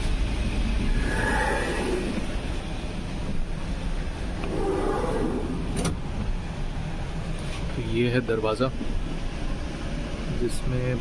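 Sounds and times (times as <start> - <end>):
train rumble inside coach: 0.0 - 11.0.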